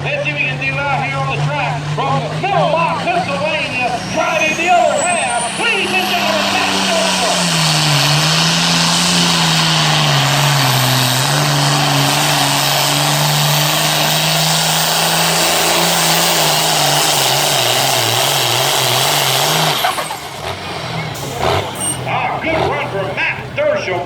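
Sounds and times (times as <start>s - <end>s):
diesel tractor engine at full throttle: 0.0s - 24.0s.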